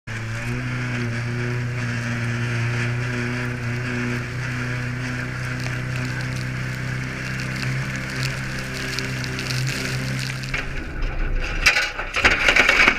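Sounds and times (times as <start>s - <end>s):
water rushing along hull: 0.1s - 11.0s
boat engine running: 0.1s - 11.1s.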